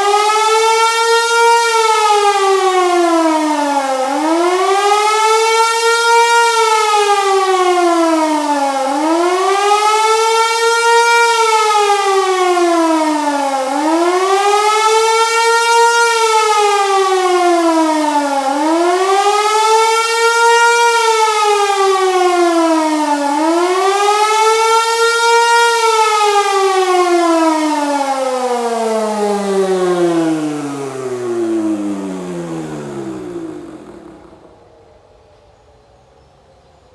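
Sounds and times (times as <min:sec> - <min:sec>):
wailing siren: 0:00.0 - 0:34.9.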